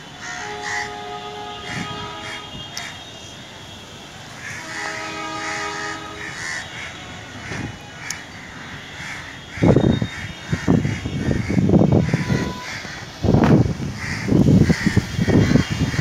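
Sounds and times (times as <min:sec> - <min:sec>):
crows cawing: 0:00.2 - 0:03.0, 0:04.4 - 0:13.2, 0:14.0 - 0:16.0.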